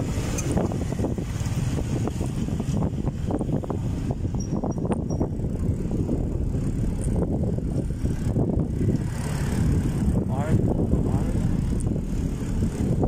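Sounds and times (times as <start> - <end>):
road noise from moving bike: 0.0 - 13.0
wind buffeting microphone: 0.0 - 13.0.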